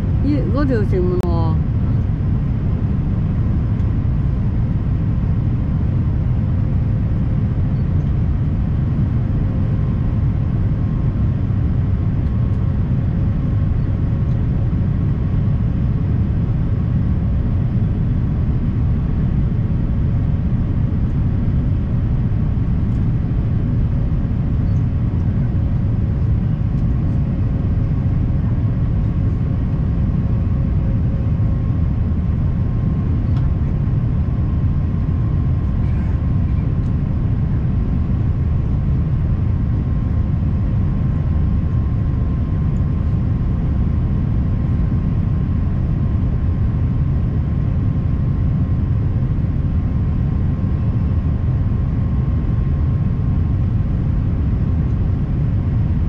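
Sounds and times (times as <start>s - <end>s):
airplane cabin rumble: 0.0s - 56.0s
faint steady hum: 0.0s - 56.0s.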